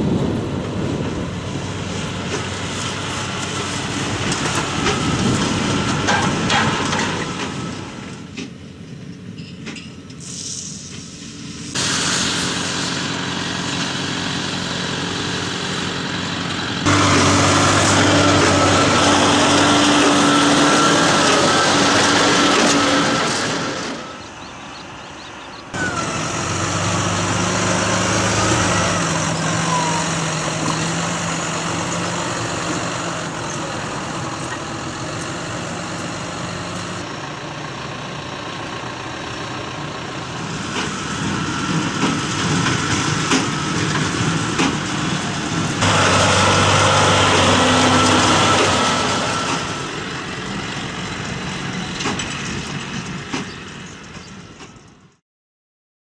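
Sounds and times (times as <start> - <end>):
tractor diesel engine running: 0.0 - 55.2.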